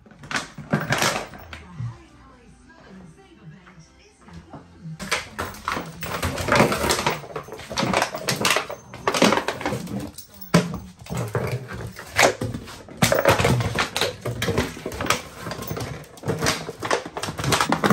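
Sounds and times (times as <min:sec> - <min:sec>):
plastic bottle crackling and clattering: 0:00.0 - 0:01.6, 0:05.0 - 0:17.9.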